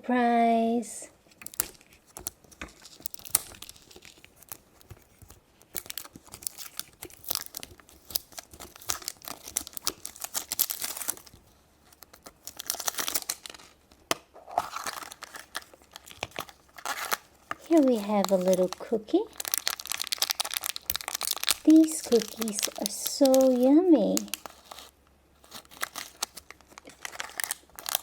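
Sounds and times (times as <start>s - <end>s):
wrapper tearing and crumpling: 1.3s - 28.0s.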